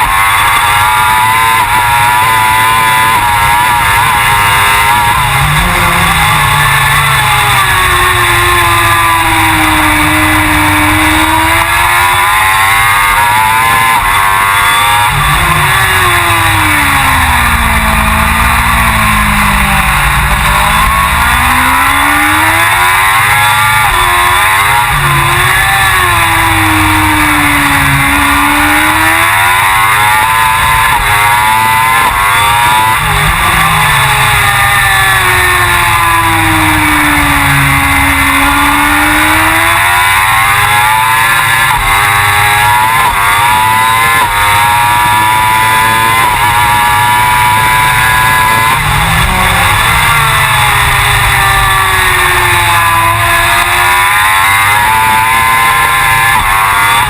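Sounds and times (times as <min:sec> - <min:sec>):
motorcycle engine racing: 0:00.0 - 0:57.0.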